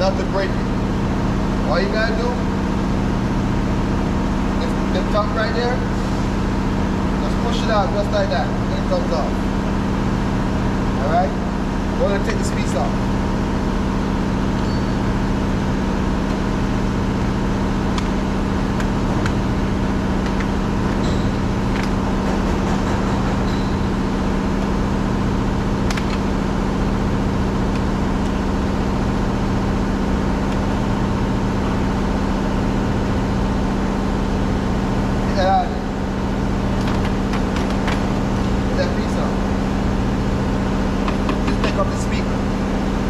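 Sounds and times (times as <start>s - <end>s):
mechanical drone with low hum: 0.0s - 43.0s.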